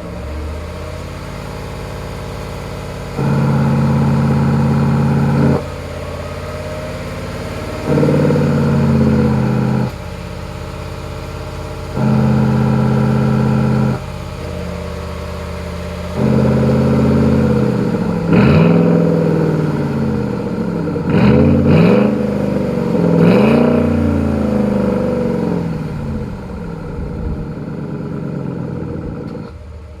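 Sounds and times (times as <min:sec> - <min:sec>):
engine idling and revving: 0:00.0 - 0:30.0.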